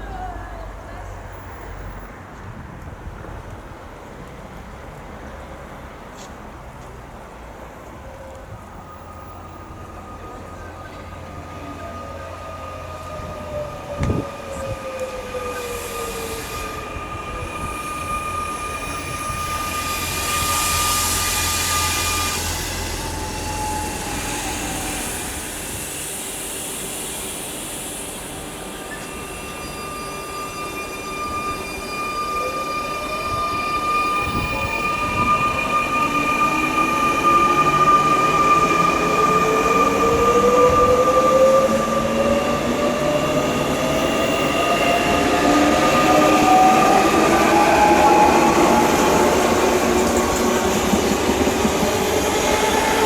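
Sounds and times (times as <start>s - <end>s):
electric train motors whining: 9.2s - 53.0s.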